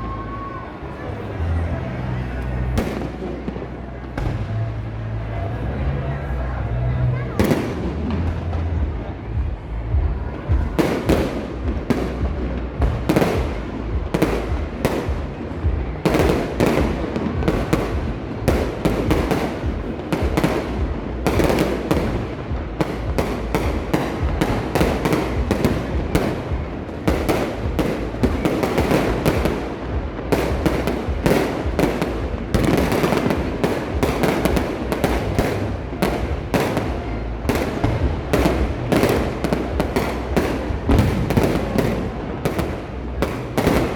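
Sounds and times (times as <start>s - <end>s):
fireworks exploding: 2.5s - 4.9s, 7.2s - 43.9s.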